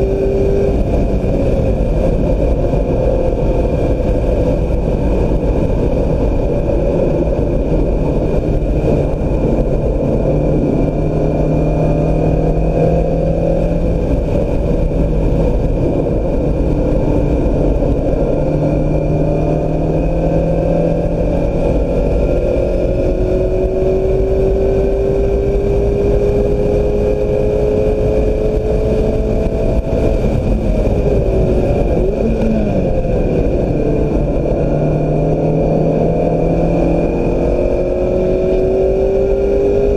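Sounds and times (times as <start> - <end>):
car engine accelerating hard: 0.0 - 39.9
road and wind noise: 0.0 - 39.9.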